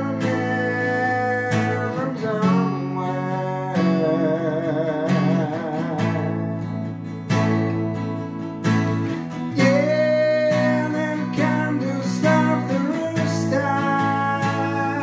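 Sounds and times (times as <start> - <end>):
man singing: 0.0 - 6.9, 9.4 - 15.0
acoustic guitar strummed chords: 0.0 - 15.0.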